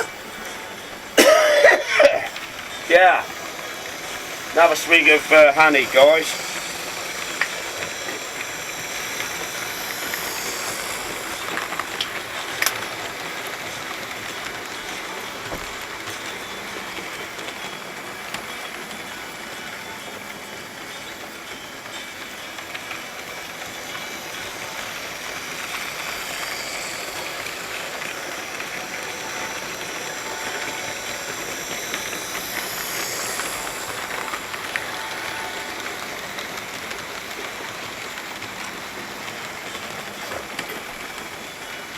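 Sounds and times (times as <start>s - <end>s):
model train motor whirring: 0.0s - 41.9s
wheels clicking over rail joints: 0.0s - 41.9s.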